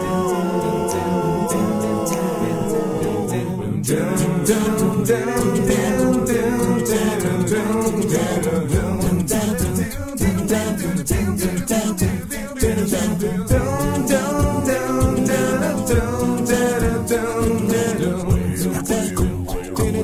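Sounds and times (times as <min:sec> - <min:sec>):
a cappella voices singing: 0:00.0 - 0:20.0.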